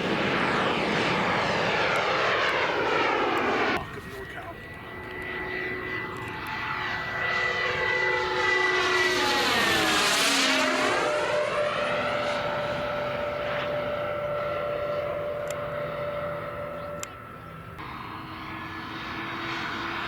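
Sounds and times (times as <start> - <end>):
model jet turbine whine: 0.0 - 20.0.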